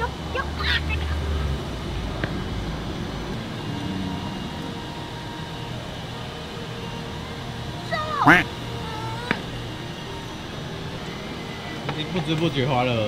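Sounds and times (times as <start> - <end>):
claw machine mechanical hum: 0.0 - 13.0.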